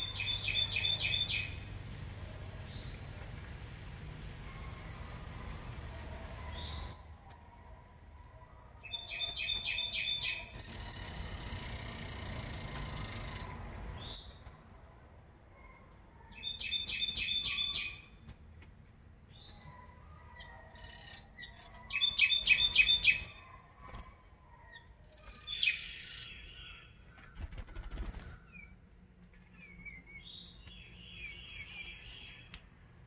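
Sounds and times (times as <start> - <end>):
songbirds singing: 0.0 - 3.6, 4.2 - 7.5, 8.2 - 14.6, 15.6 - 18.3, 19.2 - 33.0.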